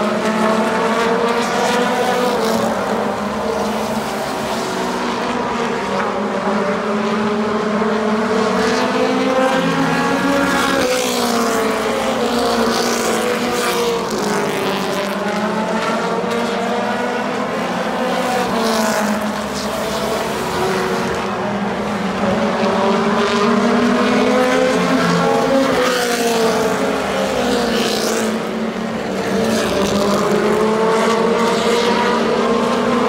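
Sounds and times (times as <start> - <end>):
stock car engines racing: 0.0 - 33.0.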